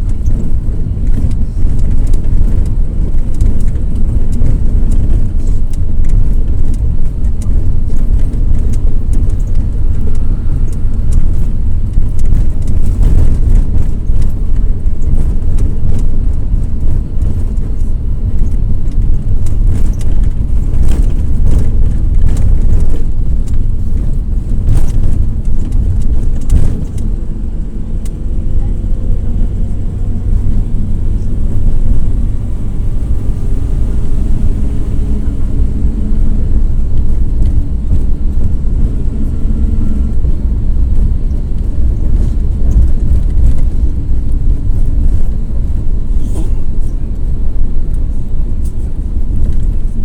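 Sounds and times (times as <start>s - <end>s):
body rattle clicks: 0.0s - 50.0s
diesel engine rumbling: 0.0s - 50.0s
road noise: 0.0s - 50.0s.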